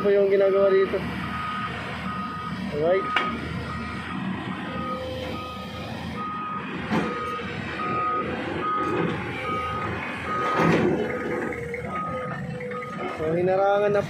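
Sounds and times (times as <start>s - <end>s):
diesel engine running: 0.0s - 14.0s
reversing alarm beeping: 0.0s - 14.0s.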